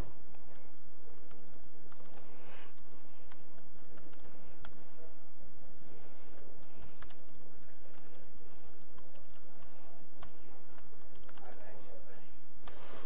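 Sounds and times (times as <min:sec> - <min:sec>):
laptop keyboard typing: 0:00.0 - 0:11.8
steady low hum: 0:00.0 - 0:13.0.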